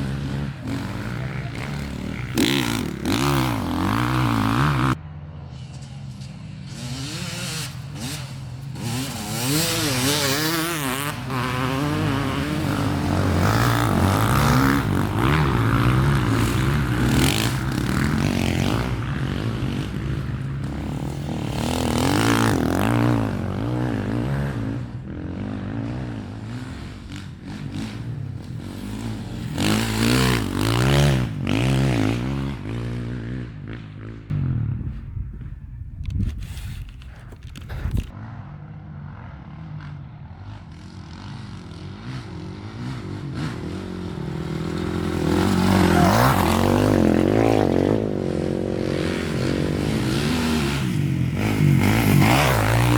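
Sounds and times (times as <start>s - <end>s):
motorcycle and atv engines revving: 0.0s - 52.9s.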